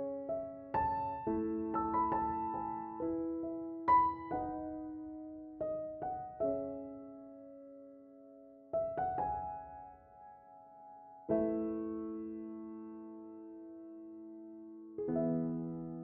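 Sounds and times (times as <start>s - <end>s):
gentle solo piano: 0.0s - 16.0s.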